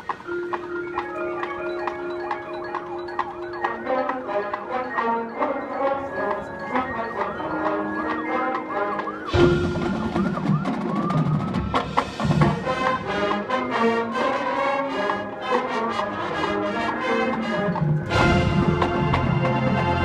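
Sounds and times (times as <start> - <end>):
drum and wood-block strikes: 0.0 - 13.0, 16.9 - 20.0
marching band playing: 0.0 - 20.0.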